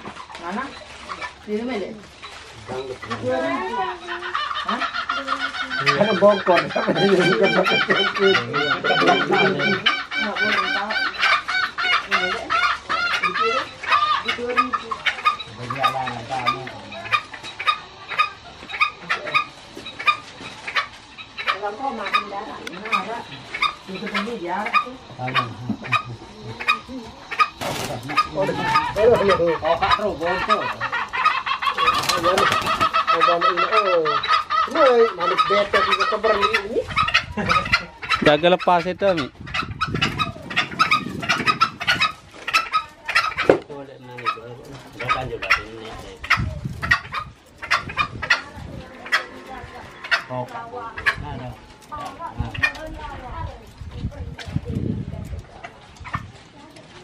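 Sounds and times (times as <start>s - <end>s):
junglefowl clucking: 0.0s - 57.0s.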